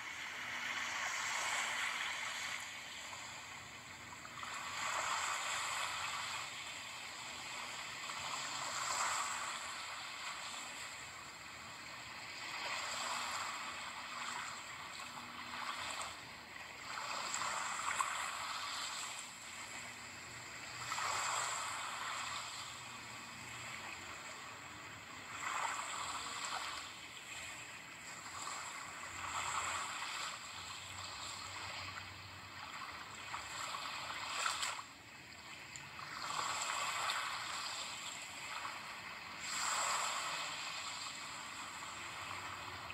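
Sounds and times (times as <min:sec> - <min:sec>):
ocean waves hissing surf: 0:00.0 - 0:34.8, 0:36.0 - 0:42.9.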